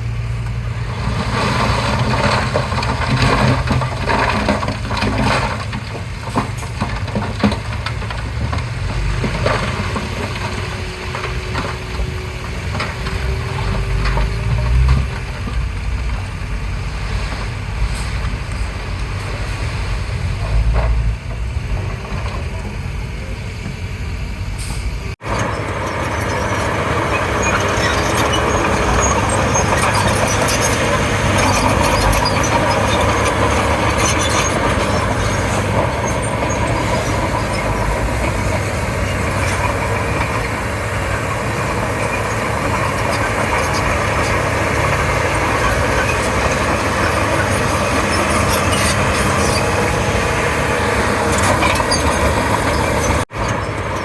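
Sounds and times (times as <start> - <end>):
bulldozer diesel engine: 0.0 - 54.0
steel tracks clanking: 0.9 - 54.0.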